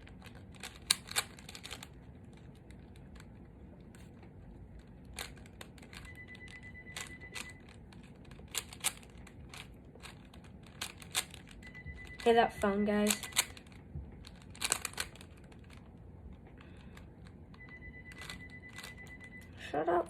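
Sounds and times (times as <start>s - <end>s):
speed cube layers clicking: 0.0s - 3.3s, 4.8s - 16.4s, 17.6s - 19.2s.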